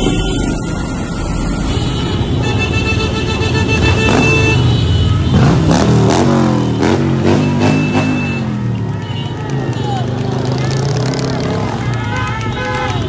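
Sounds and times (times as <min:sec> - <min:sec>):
car engines rumbling: 0:00.0 - 0:13.0
car horn toot: 0:00.0 - 0:13.0.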